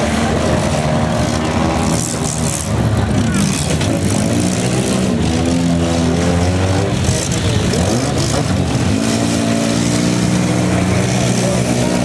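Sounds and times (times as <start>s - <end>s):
car engines running and revving: 0.0s - 12.0s.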